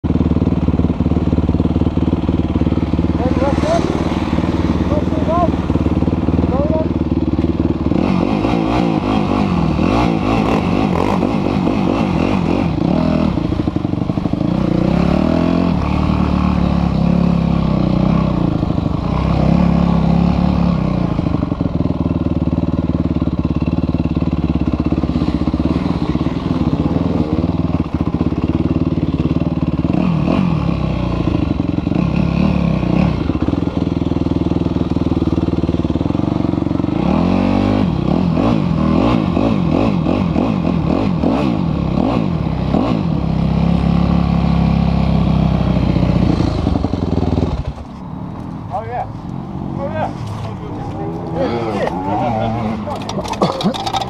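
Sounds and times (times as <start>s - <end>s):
motocross bike engine revving: 0.3s - 47.8s, 49.8s - 54.0s.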